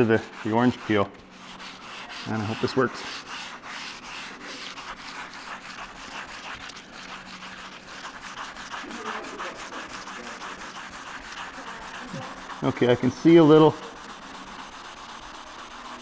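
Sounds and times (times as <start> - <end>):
sandpaper rubbing on paint: 0.0 - 16.0.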